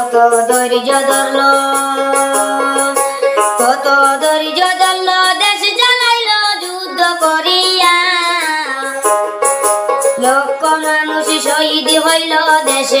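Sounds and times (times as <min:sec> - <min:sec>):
high voice singing: 0:00.0 - 0:09.1, 0:10.2 - 0:13.0
instrumental accompaniment: 0:00.0 - 0:13.0.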